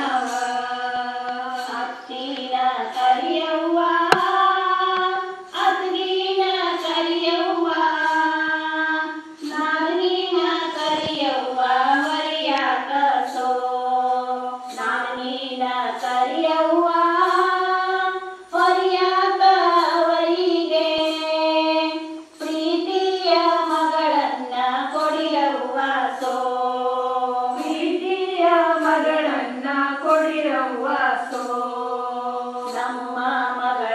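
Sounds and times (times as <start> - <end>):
women singing folk song: 0.0 - 33.9.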